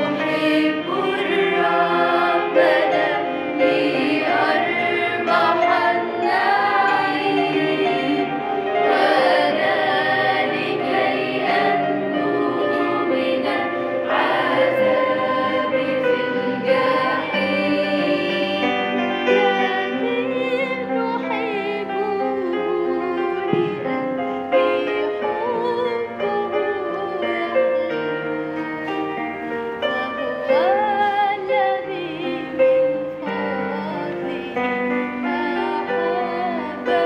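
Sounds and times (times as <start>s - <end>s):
girls choir singing a hymn: 0.0s - 37.0s.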